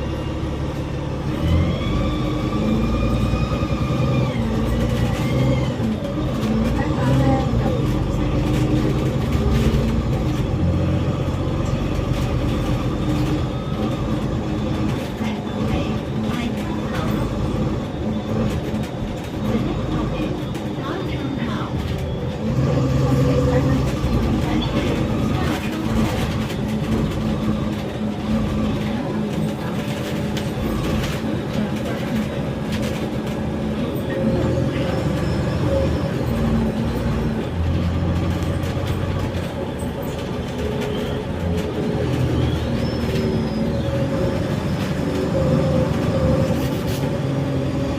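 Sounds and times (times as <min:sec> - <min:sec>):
bus engine running: 0:00.0 - 0:47.9
road rumble: 0:00.0 - 0:47.9
light cabin rattles: 0:04.3 - 0:47.9.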